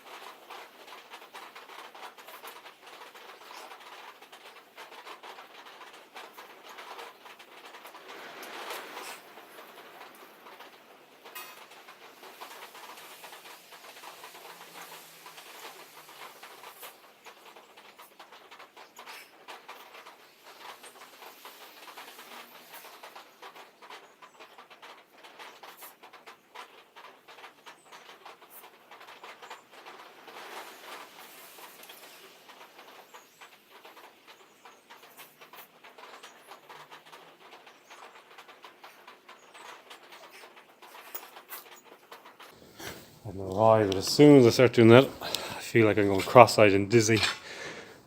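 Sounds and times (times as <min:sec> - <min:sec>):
metal clicks and creaks: 0:00.0 - 0:48.0.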